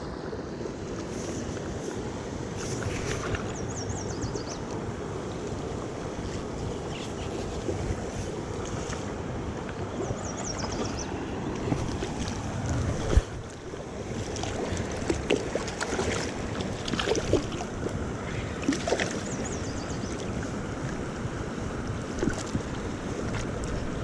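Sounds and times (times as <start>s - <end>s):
wind on microphone: 0.0s - 24.0s
creek water running and splashing: 0.6s - 3.8s, 4.8s - 24.0s.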